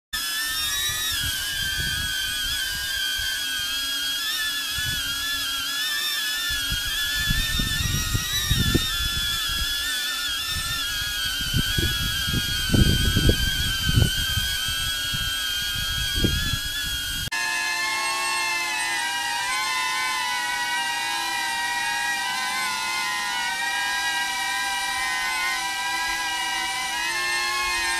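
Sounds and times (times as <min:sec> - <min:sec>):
drone propeller whine: 0:00.2 - 0:27.9.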